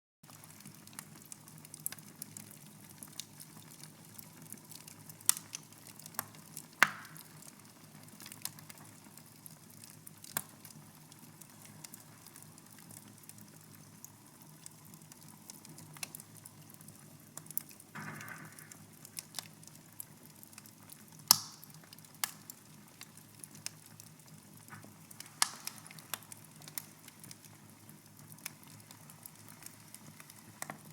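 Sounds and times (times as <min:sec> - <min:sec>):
fire crackling and popping: 0:00.3 - 0:30.9.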